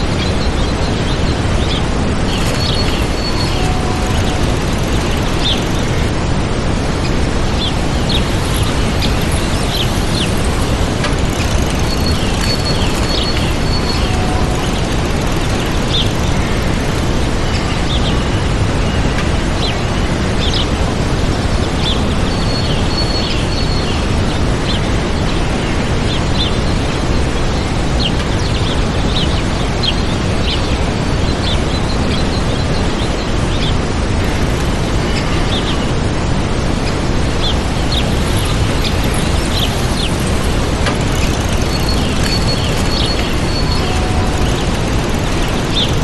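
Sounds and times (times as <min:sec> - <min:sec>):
small birds chirping: 0:00.0 - 0:46.0
waterfall rushing: 0:00.0 - 0:46.0.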